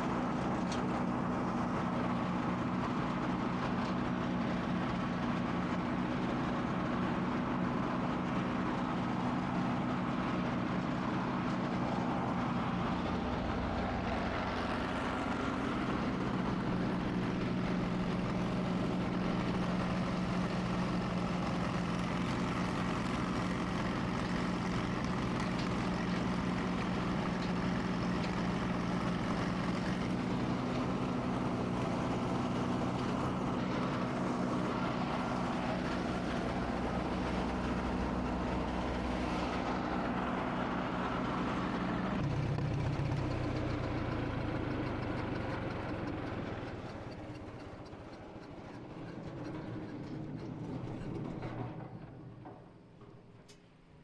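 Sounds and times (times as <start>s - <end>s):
wood chipper engine running: 0.0s - 53.2s.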